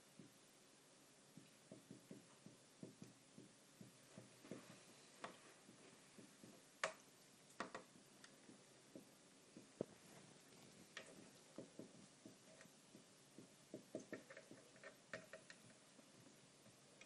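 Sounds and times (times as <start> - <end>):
marker pen on whiteboard: 1.3 - 17.0.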